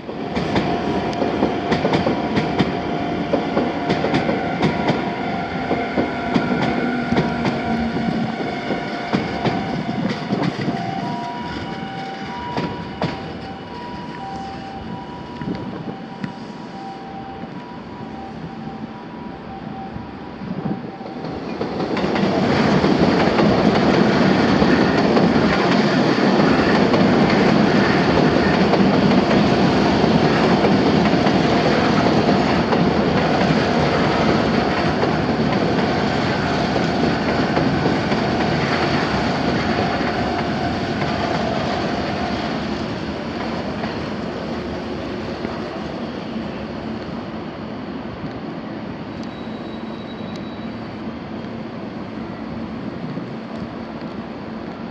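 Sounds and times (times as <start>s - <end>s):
electric train on rails: 0.0s - 54.9s.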